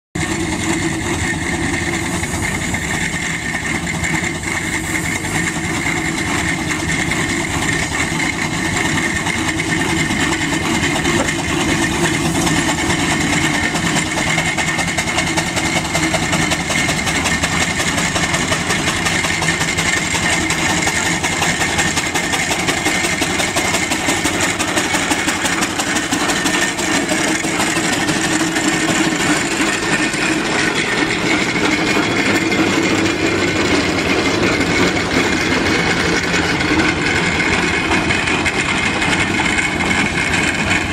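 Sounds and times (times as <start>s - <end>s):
steam engine mechanical running: 0.2s - 40.9s.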